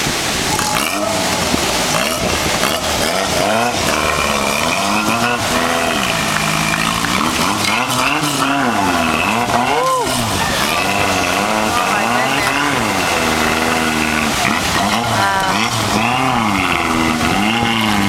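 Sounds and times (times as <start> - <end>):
boat engine revving: 0.0 - 18.0
waves rushing: 0.0 - 18.0.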